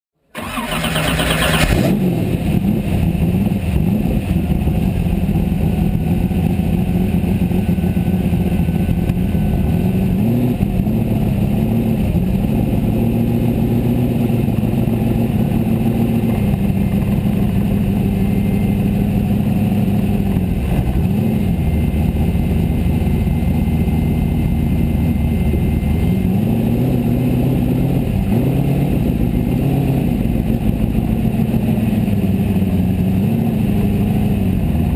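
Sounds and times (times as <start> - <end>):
buggy engine running: 0.2 - 34.9
engine throttle blips: 0.2 - 34.9.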